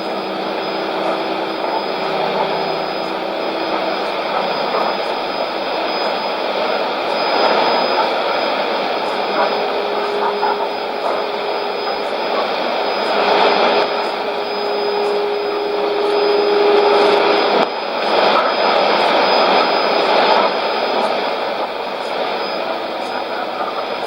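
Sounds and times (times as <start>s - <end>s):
lower radio tone: 0.0s - 24.0s
radio static hiss: 0.0s - 24.0s
steady radio tone: 0.0s - 24.0s.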